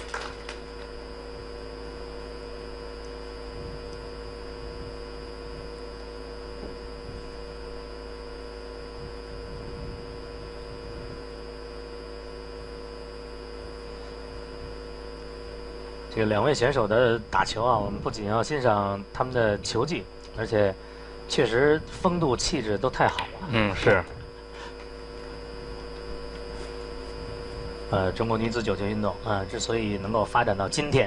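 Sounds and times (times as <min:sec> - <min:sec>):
steady electrical hum: 0:00.0 - 0:31.0.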